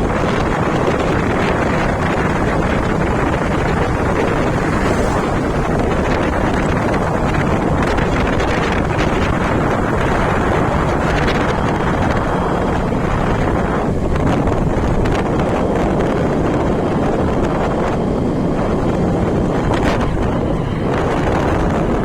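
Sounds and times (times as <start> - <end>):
low rumble: 0.0 - 22.0
wind buffeting microphone: 0.0 - 22.0.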